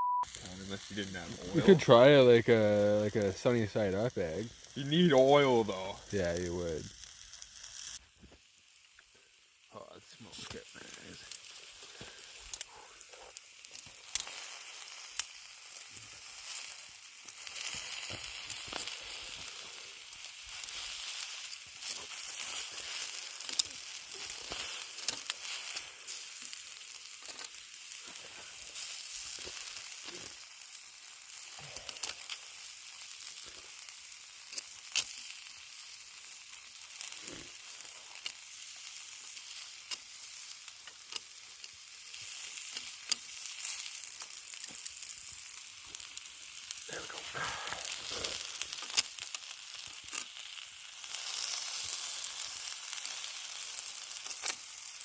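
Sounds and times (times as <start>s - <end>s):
meat sizzling on hot rock: 0.2s - 55.0s.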